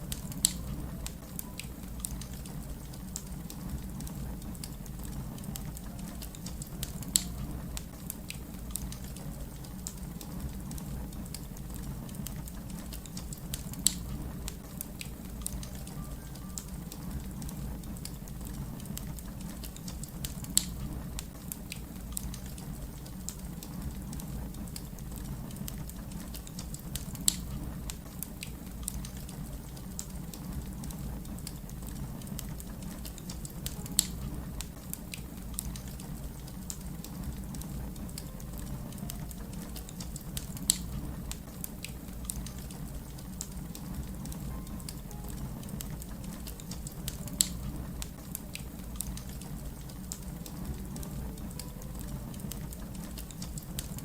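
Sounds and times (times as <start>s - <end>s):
sharp fire pops: 0.0s - 15.8s, 17.4s - 38.3s, 38.9s - 50.8s
fire crackling: 0.0s - 54.0s.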